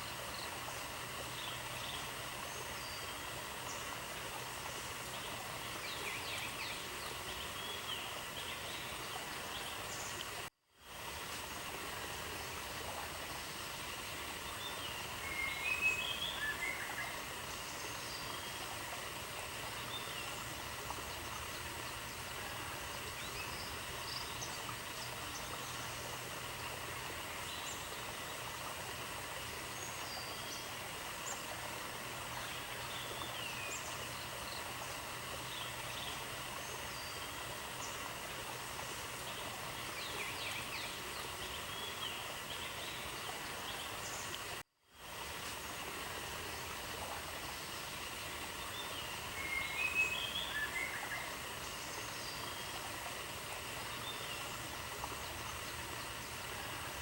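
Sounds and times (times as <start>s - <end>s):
constant hiss: 0.0s - 57.0s.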